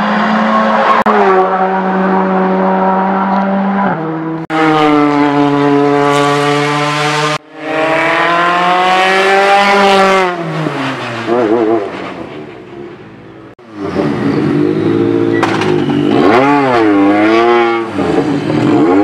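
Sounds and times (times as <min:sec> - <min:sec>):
rally car engines passing at high revs: 0:00.0 - 0:12.7, 0:13.6 - 0:19.0.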